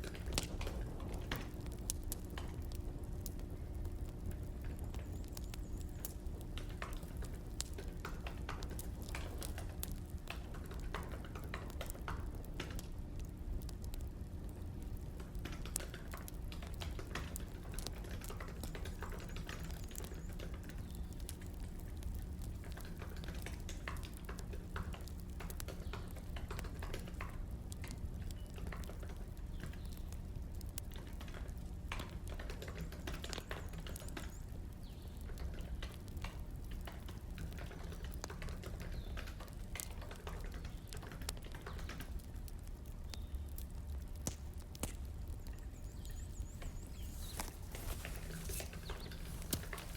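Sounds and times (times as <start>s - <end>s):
steady low hum: 0.0s - 49.9s
wood fire crackling: 0.0s - 49.9s.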